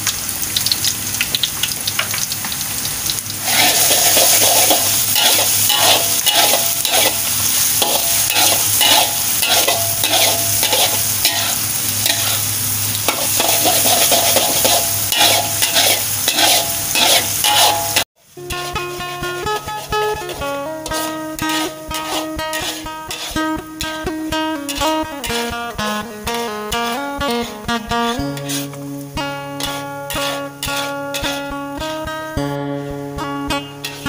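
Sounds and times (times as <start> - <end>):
shallots sizzling in hot oil: 0.0 - 34.0
acoustic guitar music: 3.3 - 34.0
metal spatula scraping wok: 3.4 - 32.4, 33.5 - 34.0.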